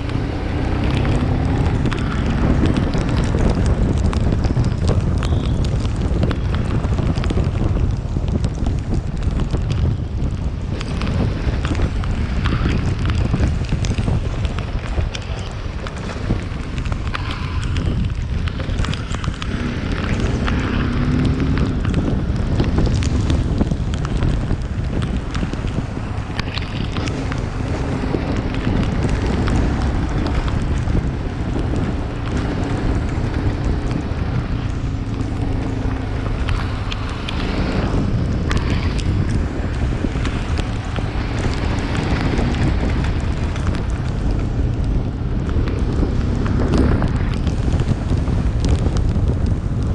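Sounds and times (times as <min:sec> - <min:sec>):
road noise rumble: 0:00.0 - 0:49.9
wind buffeting microphone: 0:00.0 - 0:49.9.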